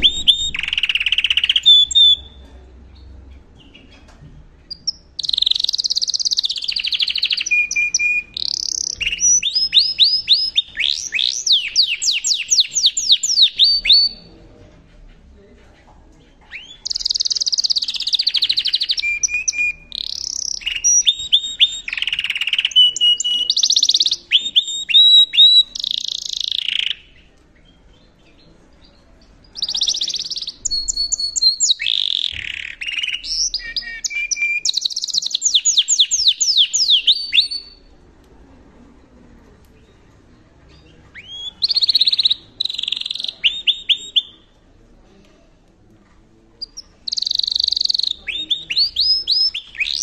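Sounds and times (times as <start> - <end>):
canary singing trills: 0.0 - 4.1, 4.7 - 14.3, 16.5 - 37.9, 40.7 - 44.5, 46.6 - 50.0.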